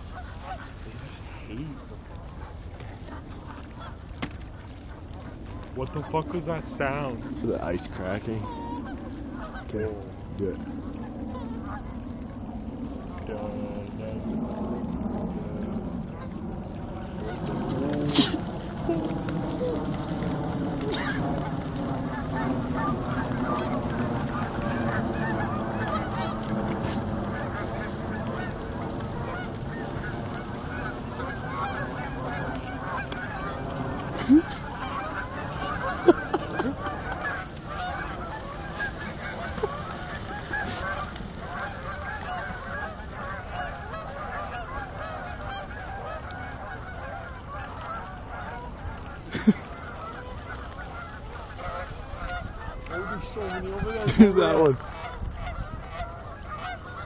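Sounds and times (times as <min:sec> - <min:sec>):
geese honking: 0:00.0 - 0:57.0.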